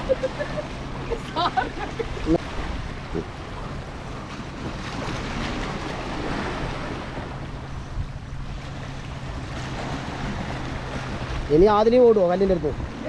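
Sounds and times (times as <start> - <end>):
sea waves washing against rocks: 0.0 - 13.0
wind buffeting microphone: 0.0 - 13.0.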